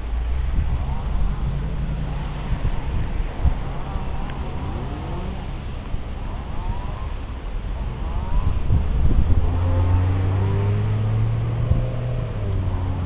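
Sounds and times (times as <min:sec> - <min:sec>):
rushing noise: 0:00.0 - 0:13.0
vehicle engine humming: 0:00.0 - 0:13.0.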